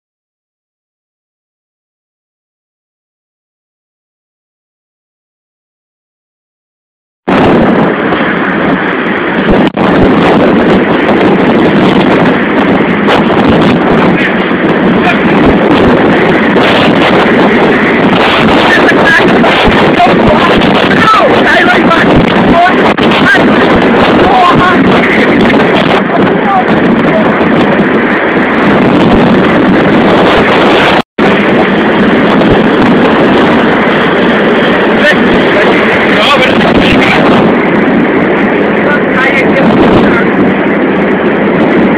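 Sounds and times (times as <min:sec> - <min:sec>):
wind on microphone: 0:07.2 - 0:41.9.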